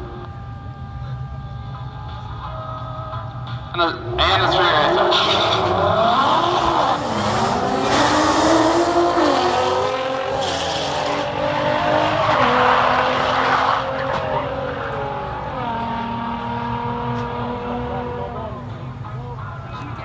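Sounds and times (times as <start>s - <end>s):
drag cars accelerating at full throttle: 3.2s - 20.0s.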